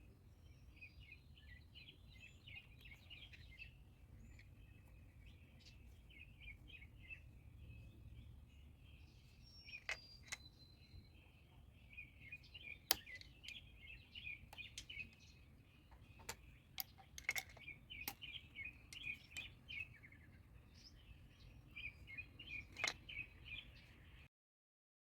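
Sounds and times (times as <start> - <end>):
small birds twittering: 0.0 - 24.3.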